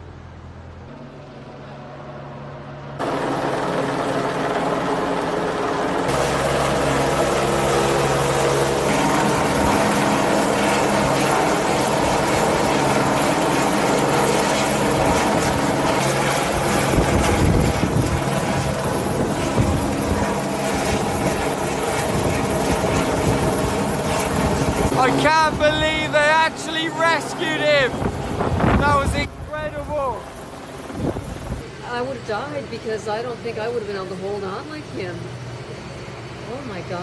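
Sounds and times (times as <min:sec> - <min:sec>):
helicopter rotor drone: 0:00.0 - 0:37.0.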